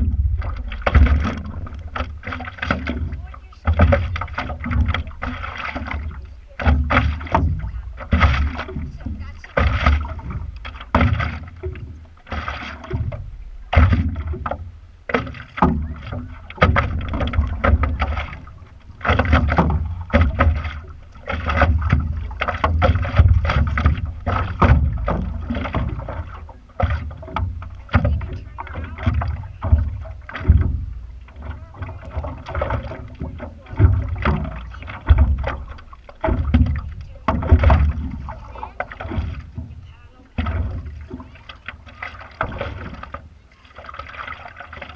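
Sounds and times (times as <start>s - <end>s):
paddle strokes in water: 0.0s - 44.9s
water slapping against board: 0.0s - 44.9s.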